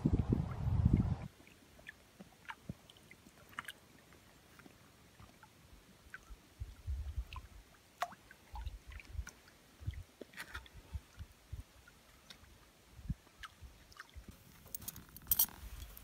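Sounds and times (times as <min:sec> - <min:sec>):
water lapping against rocks: 0:01.2 - 0:15.4
small drips and clicks: 0:01.2 - 0:15.5.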